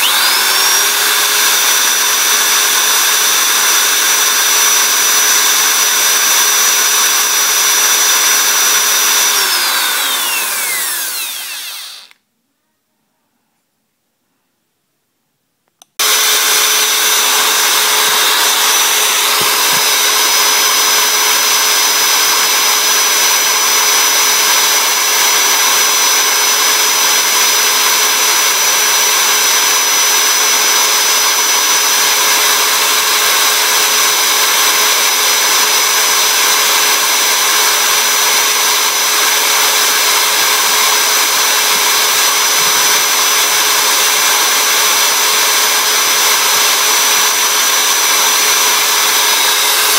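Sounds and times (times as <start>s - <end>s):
electric motor spinning sanding drum: 0.0s - 12.2s, 16.0s - 49.9s.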